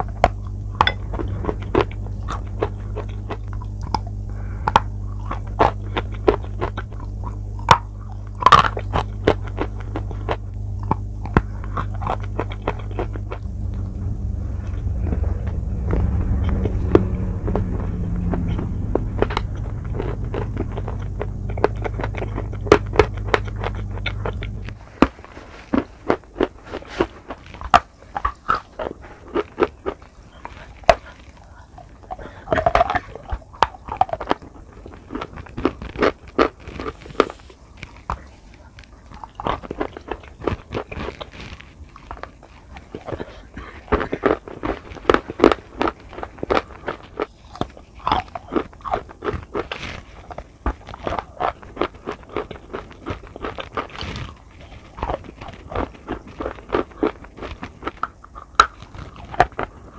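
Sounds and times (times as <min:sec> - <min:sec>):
crunching and chewing chalk: 0:00.0 - 0:59.9
steady low hum: 0:00.0 - 0:59.9.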